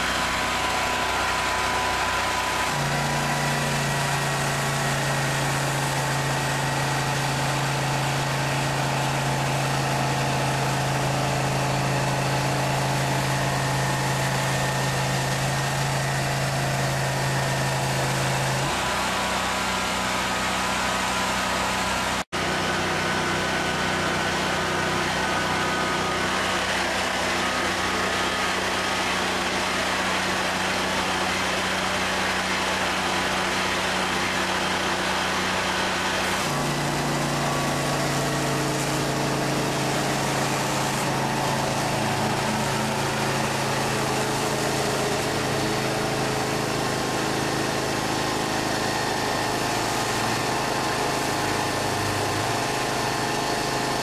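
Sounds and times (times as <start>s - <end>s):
jetter engine running: 0.0s - 54.0s.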